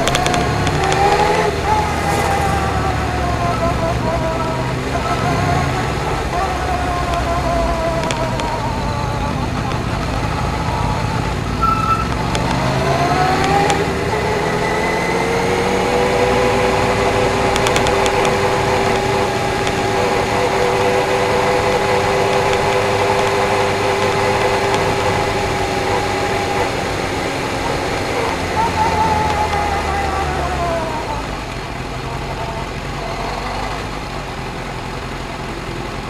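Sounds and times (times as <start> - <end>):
motorcycle engine: 0.0 - 36.0.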